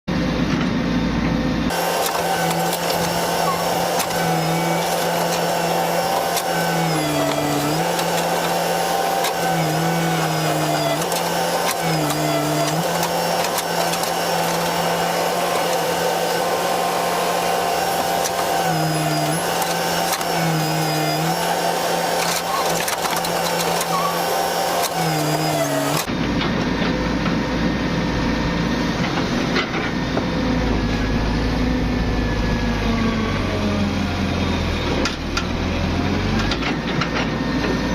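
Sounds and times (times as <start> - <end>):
excavator engine and hydraulics: 0.1 - 37.9
low rumbling engine: 0.1 - 37.9.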